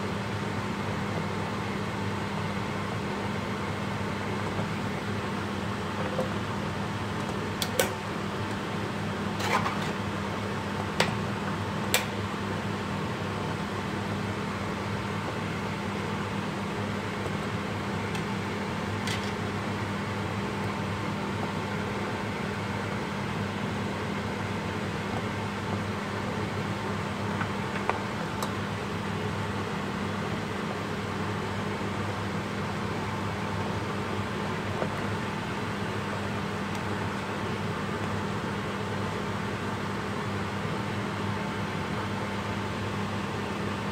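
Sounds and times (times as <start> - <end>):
steady mechanical hum: 0.0 - 43.9.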